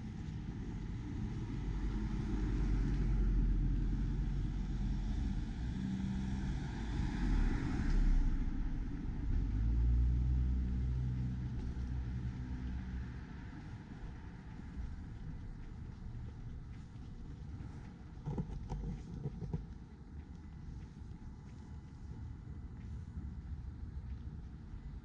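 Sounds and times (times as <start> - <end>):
vehicles driving past: 0.0 - 25.0.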